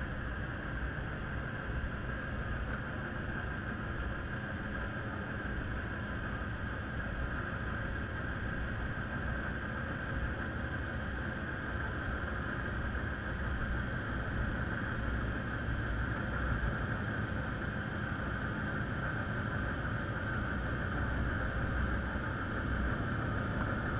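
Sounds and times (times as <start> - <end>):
muffled underwater rumble and hiss: 0.0 - 23.9.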